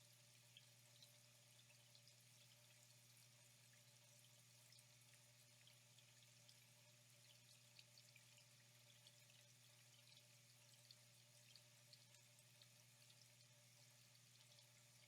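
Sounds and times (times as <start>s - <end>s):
water trickling with drips: 0.0s - 15.0s.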